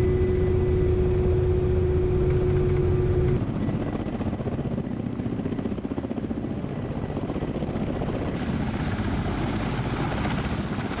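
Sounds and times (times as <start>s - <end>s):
helicopter rotor chop: 2.2s - 11.0s.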